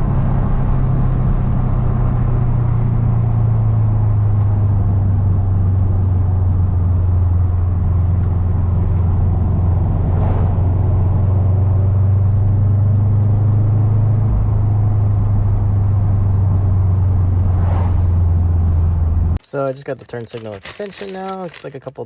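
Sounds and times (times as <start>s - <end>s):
car engine and road drone: 0.0s - 19.4s.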